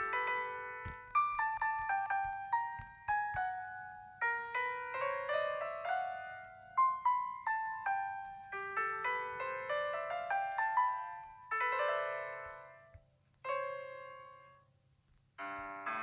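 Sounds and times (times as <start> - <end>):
piano music: 0.0 - 14.7, 15.4 - 16.0.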